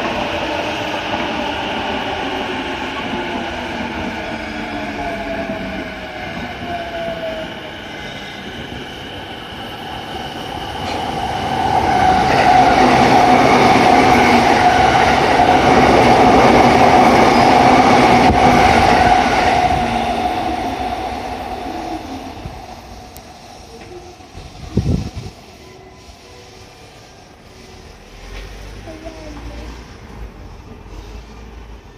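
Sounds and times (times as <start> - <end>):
electric train passing: 0.0 - 31.9.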